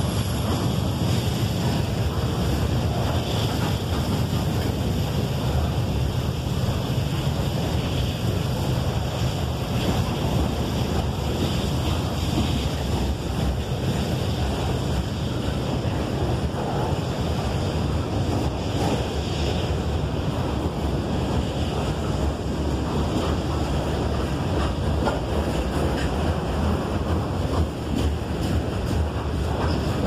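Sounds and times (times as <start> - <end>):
freight train wheels rumbling on rails: 0.0 - 30.0.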